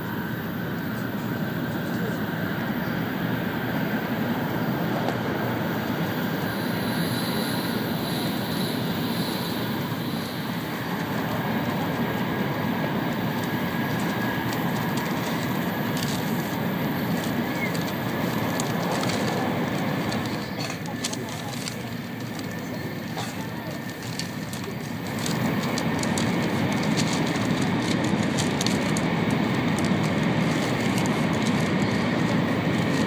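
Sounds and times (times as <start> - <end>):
faint steady whine: 0.0 - 33.0
train running noise inside cabin: 0.0 - 33.0.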